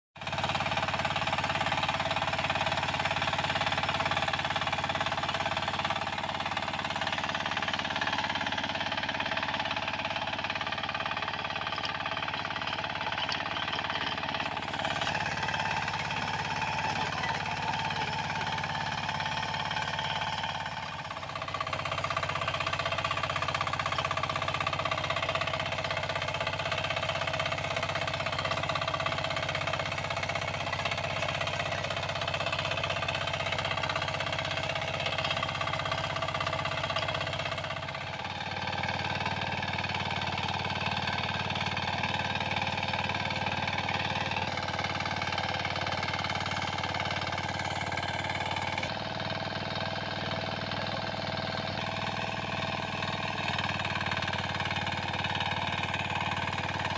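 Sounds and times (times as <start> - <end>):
rotary tines churning soil: 0.2 - 49.0
power tiller engine running: 0.2 - 56.9.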